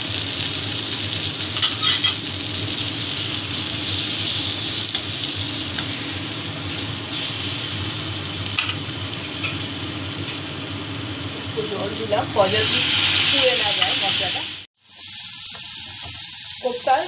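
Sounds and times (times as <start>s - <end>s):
onion and spices sizzling in oil: 0.0s - 17.0s.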